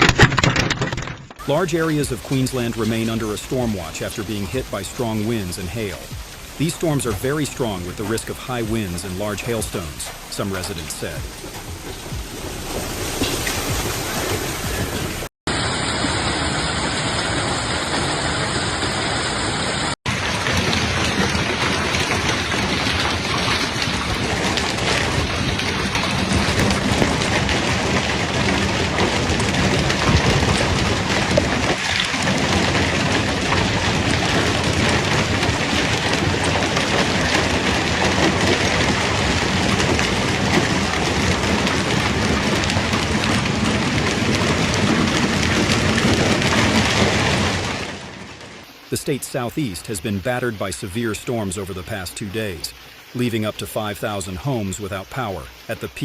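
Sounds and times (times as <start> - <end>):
rain and hail pelting down: 0.0 - 56.0.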